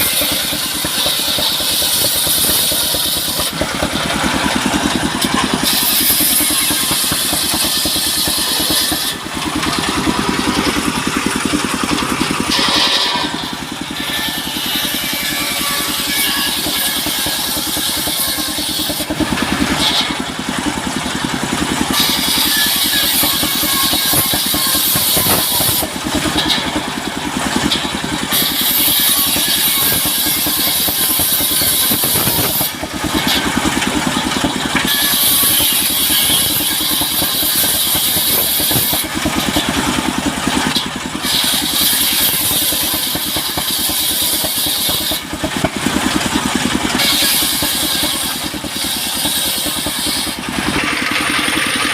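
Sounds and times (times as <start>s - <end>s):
saw blade cutting timber: 0.0s - 51.9s
sawmill engine running: 0.0s - 51.9s.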